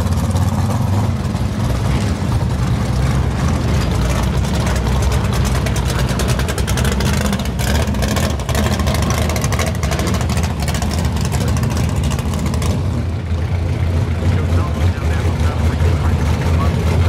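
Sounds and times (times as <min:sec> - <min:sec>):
crackling exhaust beat: 0:00.0 - 0:17.0
deep engine rumble: 0:00.0 - 0:17.0.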